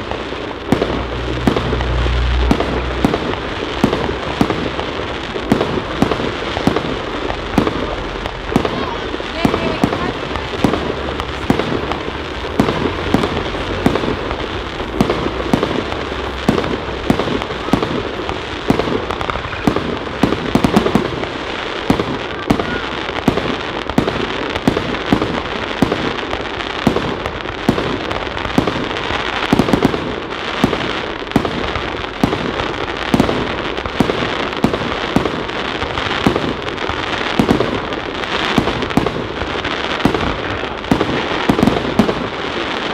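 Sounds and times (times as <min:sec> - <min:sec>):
fireworks popping and crackling: 0:00.0 - 0:42.9.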